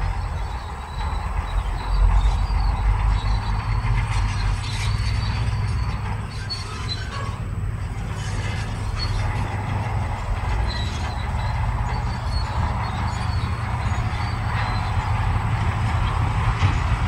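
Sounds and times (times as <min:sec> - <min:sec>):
bulldozer diesel engine rumbling: 0:00.0 - 0:17.0
steel tracks squealing: 0:00.0 - 0:17.0.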